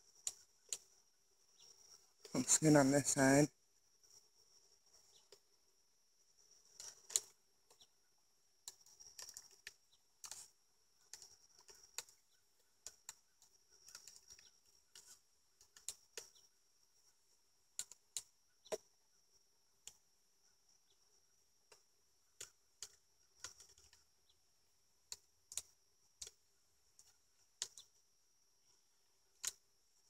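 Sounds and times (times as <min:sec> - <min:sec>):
high insect drone: 0:00.0 - 0:24.9.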